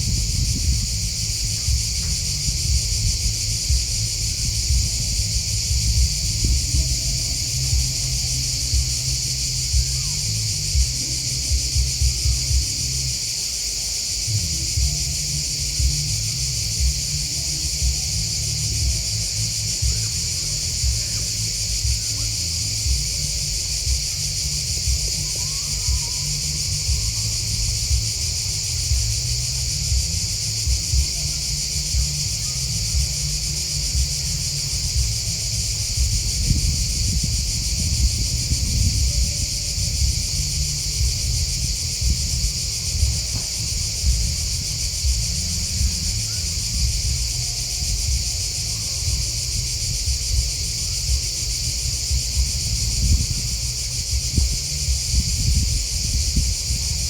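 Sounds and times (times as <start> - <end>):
crickets chirping chorus: 0.0 - 57.0
low rumble: 0.0 - 57.0.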